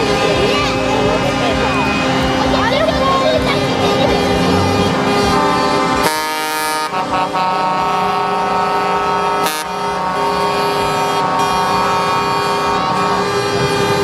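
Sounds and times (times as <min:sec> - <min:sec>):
truck air horns blaring: 0:00.0 - 0:14.0.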